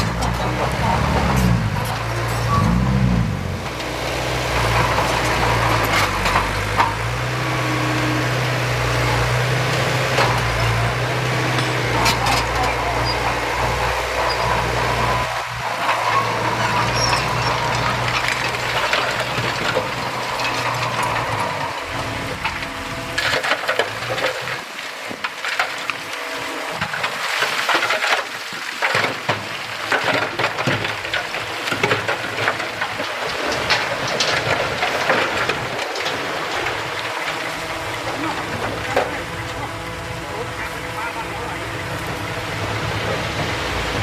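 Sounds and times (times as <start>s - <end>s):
diesel engine running: 0.0s - 27.1s, 29.7s - 44.0s
stones and soil tumbling: 0.0s - 44.0s.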